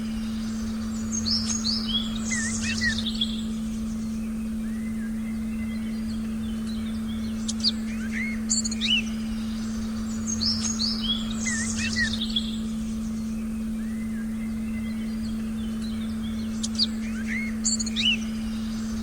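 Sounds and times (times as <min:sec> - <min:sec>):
forest birds chirping: 0:00.0 - 0:19.0
low meditation tone: 0:00.0 - 0:19.0.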